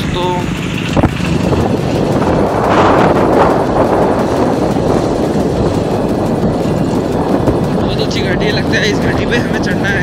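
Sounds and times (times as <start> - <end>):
motorcycle engine running: 0.0 - 10.0
wind buffeting microphone: 0.0 - 10.0.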